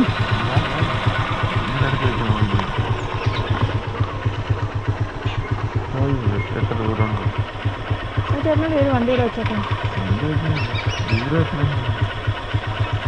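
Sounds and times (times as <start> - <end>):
motorcycle engine idling low: 0.0 - 13.0.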